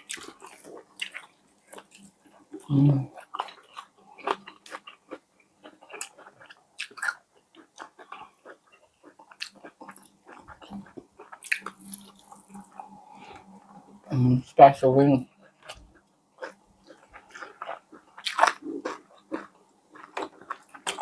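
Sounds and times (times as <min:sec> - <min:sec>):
chewing crispy fried chicken: 0:00.0 - 0:14.0, 0:15.2 - 0:21.0.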